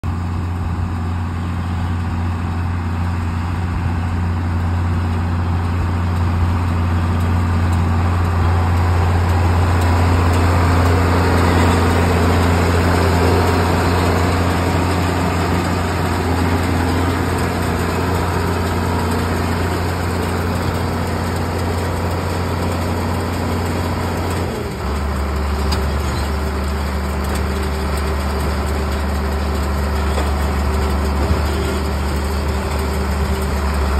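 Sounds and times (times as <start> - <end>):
tractor diesel engine under load: 0.0 - 33.9
baler clatter: 5.7 - 33.9.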